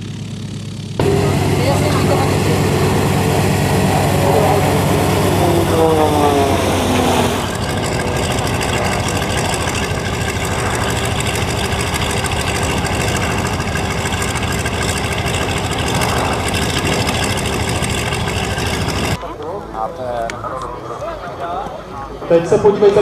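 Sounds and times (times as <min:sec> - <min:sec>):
aircraft radial engine running: 0:00.0 - 0:19.2.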